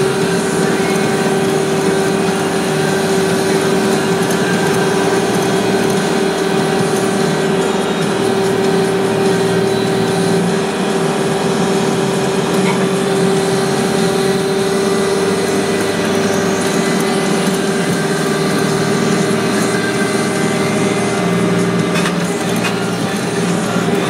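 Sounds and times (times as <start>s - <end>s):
engine drone: 0.0s - 24.0s
steady machine whine: 0.0s - 24.0s.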